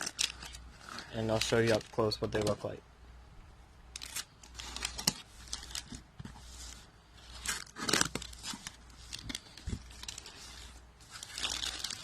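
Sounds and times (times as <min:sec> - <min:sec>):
packaging tearing and rustling: 0:00.0 - 0:02.6, 0:04.0 - 0:12.0.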